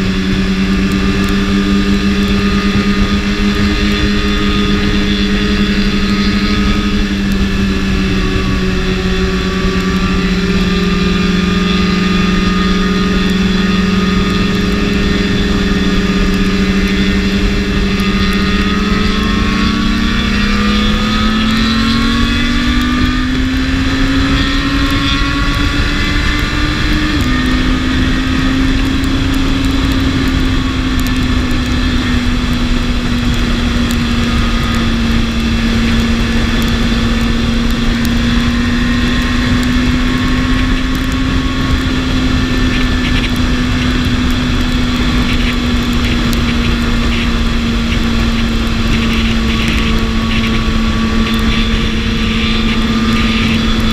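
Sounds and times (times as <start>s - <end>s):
motorcycle engine revving: 0.0s - 53.9s
wind rush: 0.0s - 53.9s.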